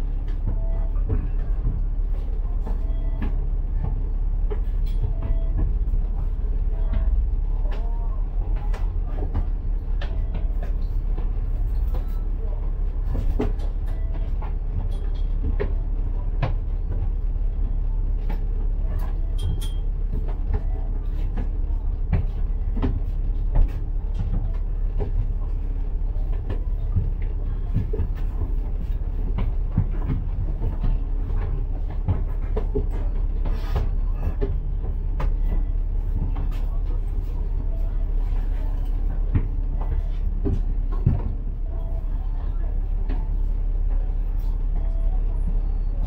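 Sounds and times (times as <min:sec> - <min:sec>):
rattles and knocks: 0:00.0 - 0:45.0
bus engine and road rumble: 0:00.0 - 0:46.0.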